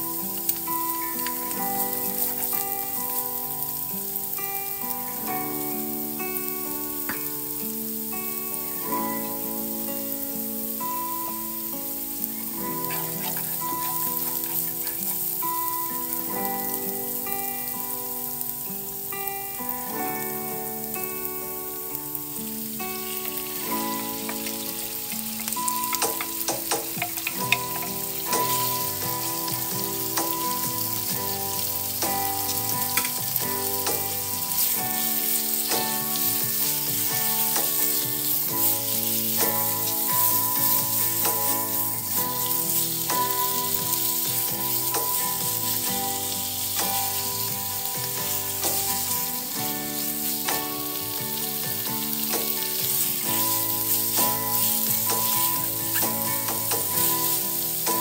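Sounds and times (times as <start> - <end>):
background music melody: 0.0 - 58.0
food sizzling in oil: 0.0 - 58.0.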